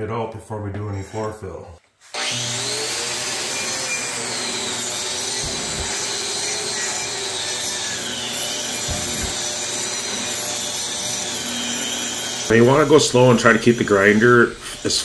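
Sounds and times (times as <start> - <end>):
angle grinder grinding concrete: 2.0 - 15.0.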